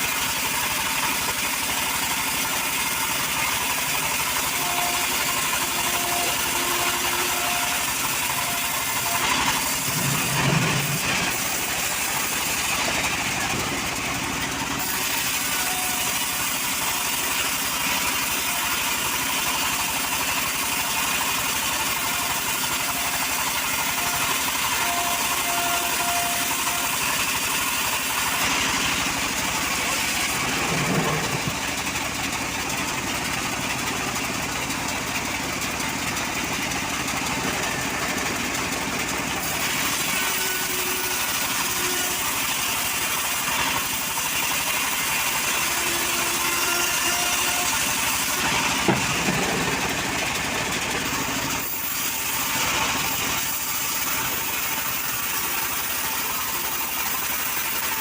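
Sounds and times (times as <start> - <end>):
petrol saw running: 0.0 - 58.0.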